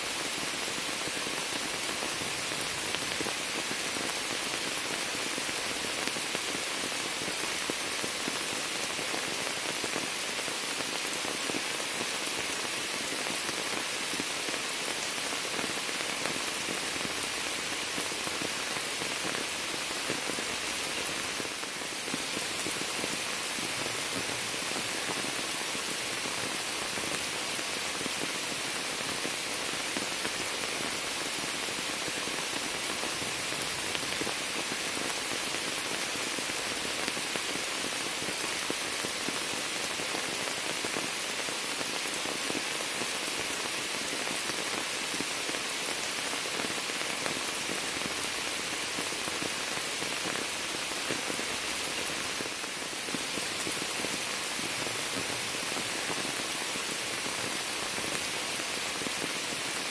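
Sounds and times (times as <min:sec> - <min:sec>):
rain falling into water and leaves: 0:00.0 - 0:59.9.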